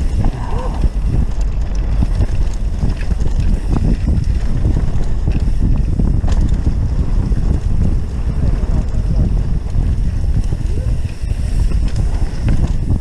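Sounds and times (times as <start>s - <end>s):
bike knocks and rattles: 0.0s - 13.0s
tyres running over dirt trail: 0.0s - 13.0s
wind rumbling on microphone: 0.0s - 13.0s.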